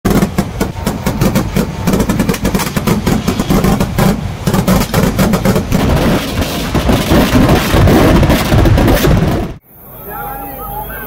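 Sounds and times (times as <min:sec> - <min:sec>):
firecrackers crackling: 0:00.1 - 0:09.6.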